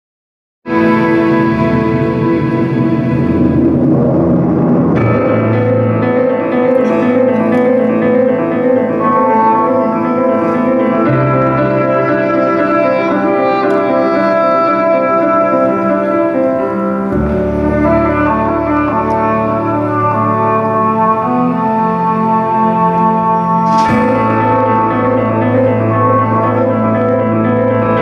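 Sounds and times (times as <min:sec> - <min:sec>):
slow instrumental music: 0:00.7 - 0:28.0.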